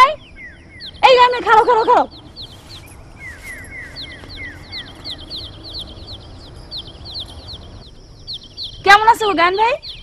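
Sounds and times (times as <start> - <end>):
faint outdoor background noise: 0.0 - 10.0
small birds chirping: 0.0 - 10.0.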